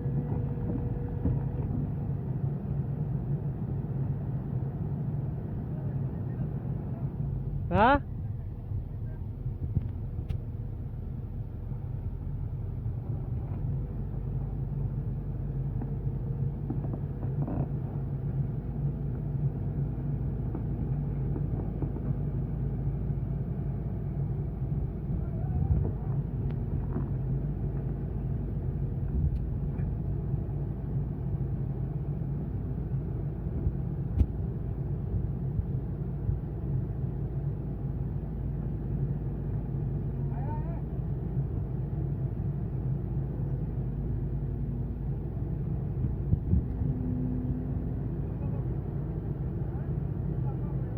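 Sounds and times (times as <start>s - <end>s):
excavator diesel engine droning: 0.0s - 50.9s.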